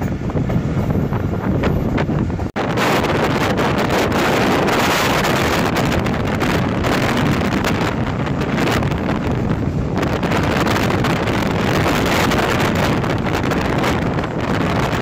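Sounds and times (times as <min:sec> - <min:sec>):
train running on rails: 0:00.0 - 0:15.0
wind buffeting microphone: 0:00.0 - 0:15.0.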